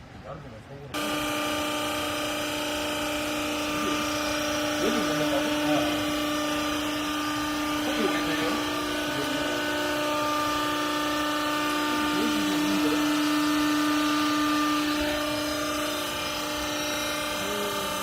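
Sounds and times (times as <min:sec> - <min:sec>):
hydraulic press whine: 0:01.0 - 0:18.0.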